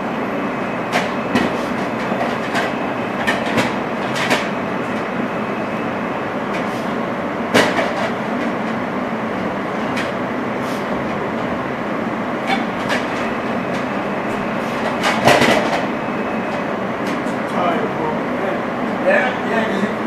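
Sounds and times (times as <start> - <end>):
subway car rumble: 0.0 - 20.0.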